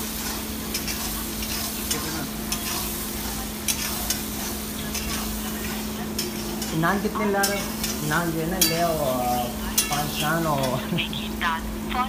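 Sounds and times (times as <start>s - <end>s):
metal spatula scraping a pan: 0.0s - 10.9s
food sizzling in a wok: 0.0s - 12.0s.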